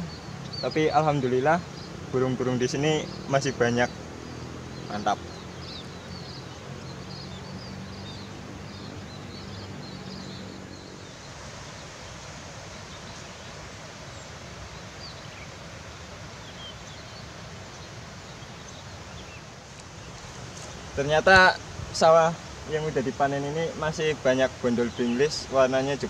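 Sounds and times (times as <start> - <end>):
noisy outdoor background: 0.0 - 26.0
small birds chirping: 0.0 - 26.0.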